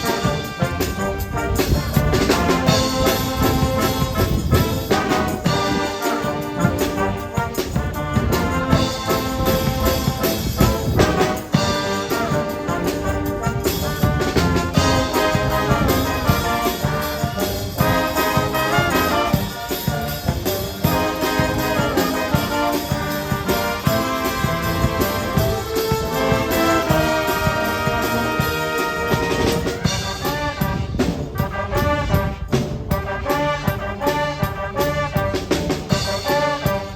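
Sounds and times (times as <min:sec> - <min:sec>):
brass music sustained notes: 0:00.0 - 0:36.9.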